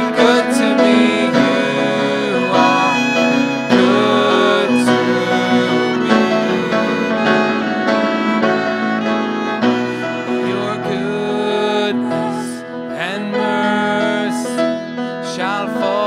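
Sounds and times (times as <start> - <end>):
grand piano: 0.0 - 16.0
violin melody: 0.0 - 16.0.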